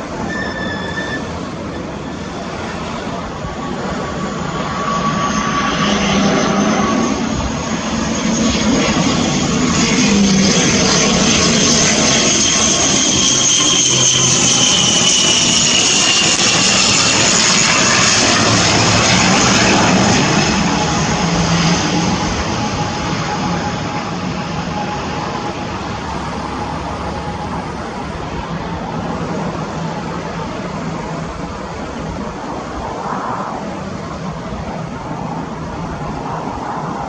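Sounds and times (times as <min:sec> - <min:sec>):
turboprop aircraft passing by: 0:01.2 - 0:37.0.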